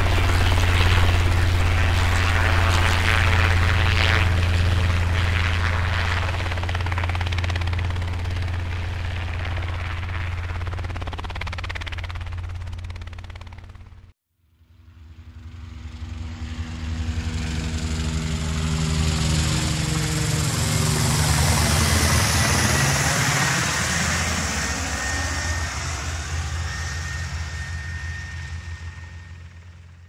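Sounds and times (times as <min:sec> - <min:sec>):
aircraft engine hum: 0:00.0 - 0:30.0.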